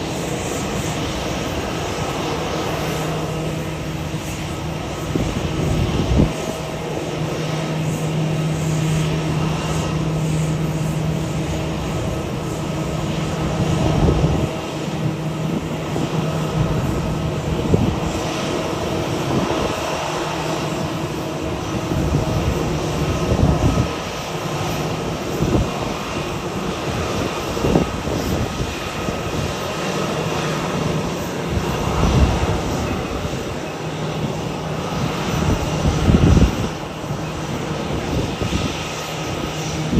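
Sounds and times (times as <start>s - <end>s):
jet airliner engines droning: 0.0s - 39.9s.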